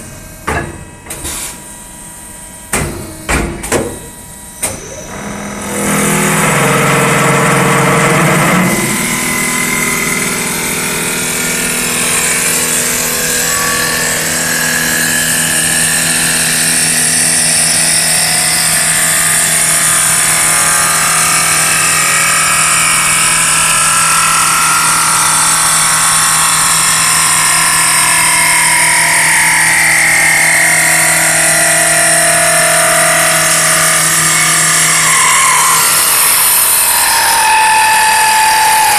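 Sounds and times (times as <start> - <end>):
lathe motor humming: 4.0 - 38.9.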